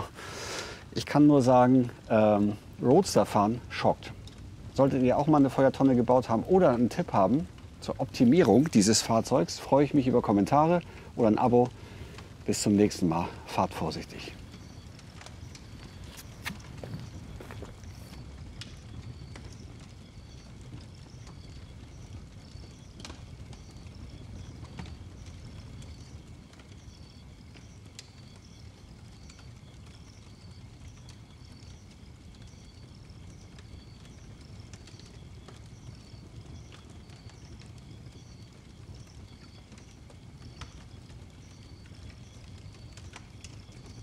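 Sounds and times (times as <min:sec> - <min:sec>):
fire low rumble: 0:00.0 - 0:44.0
wood fire crackling and popping: 0:00.0 - 0:44.0.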